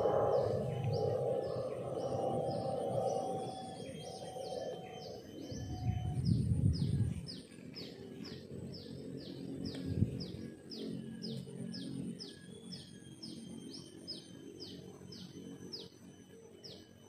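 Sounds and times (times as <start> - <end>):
low outdoor background noise: 0.0 - 17.0.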